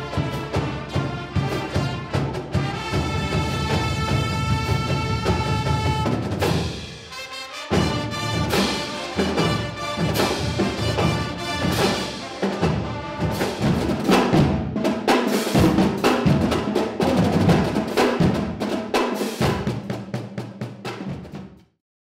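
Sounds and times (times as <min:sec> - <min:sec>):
snare and tenor drums beating: 0:00.0 - 0:21.7.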